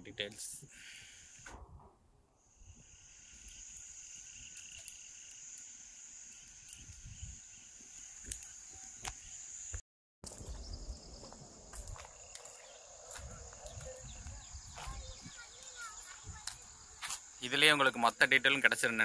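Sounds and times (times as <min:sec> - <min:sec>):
insects shrilling: 0:00.6 - 0:01.5, 0:02.4 - 0:19.0.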